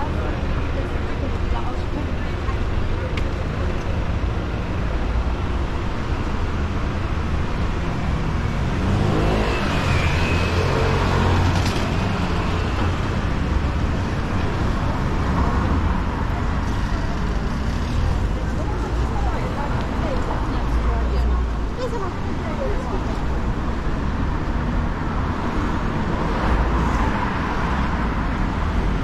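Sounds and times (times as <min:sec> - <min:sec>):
cars going by: 0:00.0 - 0:29.0.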